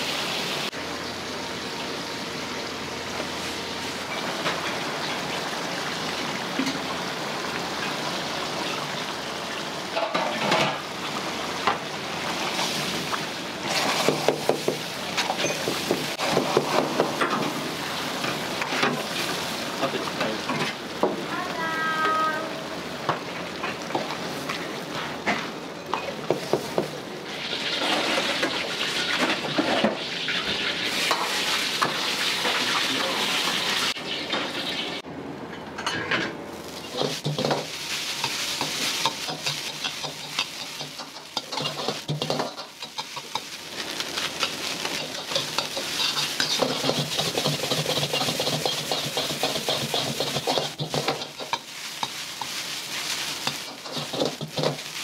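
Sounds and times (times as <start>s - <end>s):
rice sizzling in a wok: 0.0s - 35.0s, 36.4s - 55.0s.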